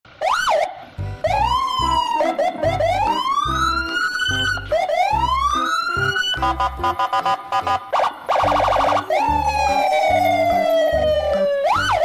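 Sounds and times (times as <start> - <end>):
siren-like wail rising: 0.2 - 12.0.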